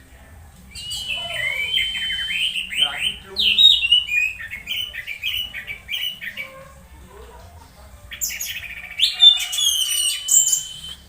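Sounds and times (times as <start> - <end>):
thrush singing: 0.0 - 11.0.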